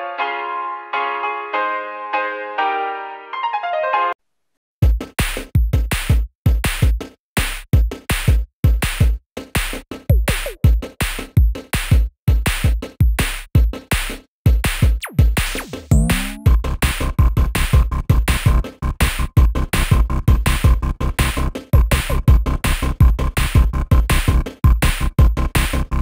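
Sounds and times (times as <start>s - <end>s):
electronic music with drum-machine beat: 4.8s - 26.0s.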